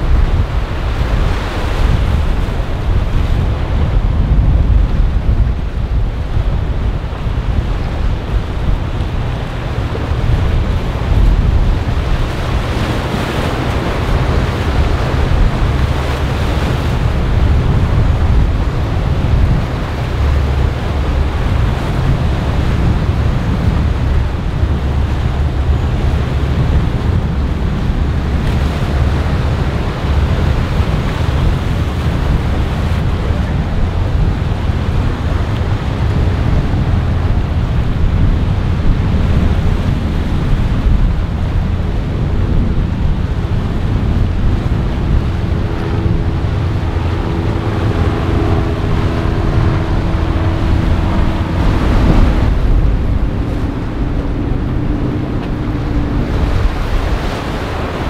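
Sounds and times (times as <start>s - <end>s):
constant low rumble: 0.0s - 58.0s
rush of waves: 0.0s - 58.0s
wind buffeting microphone: 0.0s - 58.0s.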